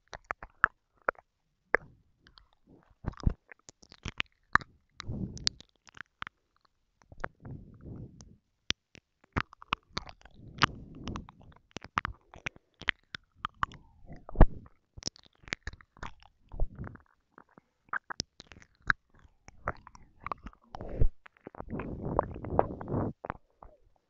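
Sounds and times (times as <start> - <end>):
wet mouth clicks and lip smacks: 0.0 - 23.8.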